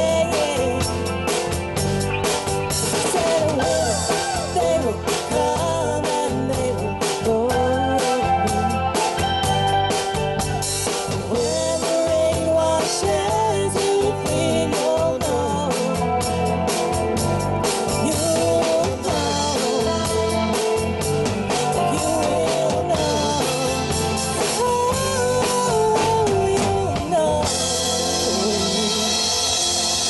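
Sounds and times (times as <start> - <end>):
bass: 0.0 - 30.0
drum-kit beat: 0.0 - 30.0
gliding lead melody: 0.0 - 30.0.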